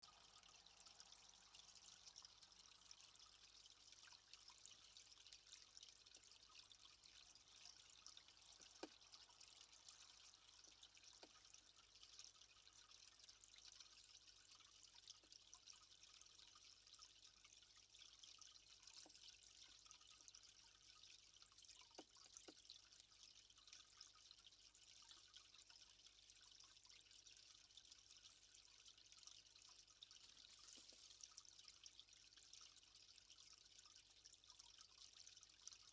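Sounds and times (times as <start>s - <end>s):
trickle of running water: 0.0s - 35.9s.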